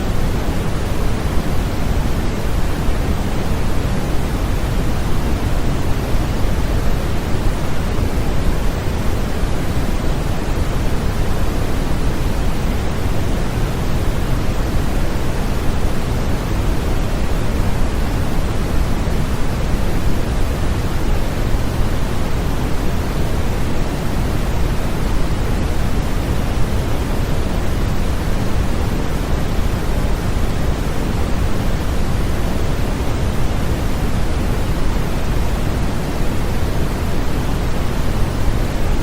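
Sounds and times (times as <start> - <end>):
steady synthetic noise hiss: 0.0 - 39.0.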